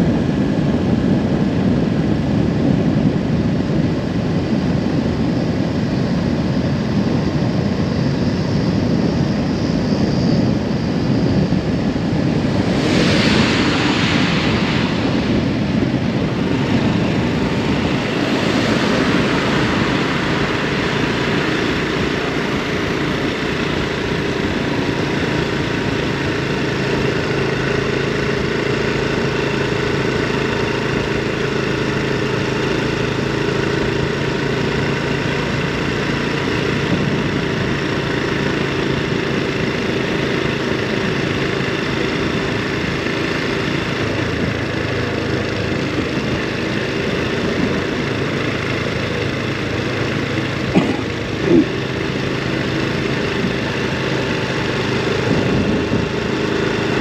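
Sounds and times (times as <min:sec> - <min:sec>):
small motorcycle engine running: 0:00.0 - 0:57.0
steady rushing noise: 0:00.0 - 0:57.0.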